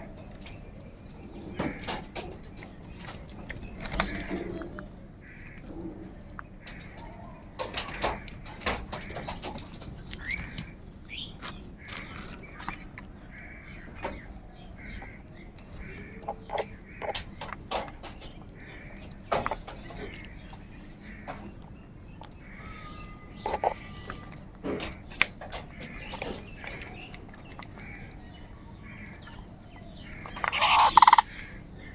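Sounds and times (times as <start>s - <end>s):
crows cawing: 1.3s - 2.3s, 3.8s - 21.7s, 22.3s - 31.9s.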